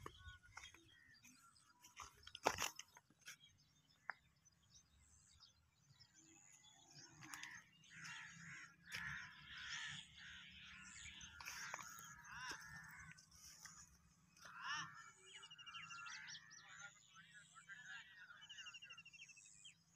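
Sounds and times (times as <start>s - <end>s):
faint bird calls and chirping: 0.0s - 19.9s.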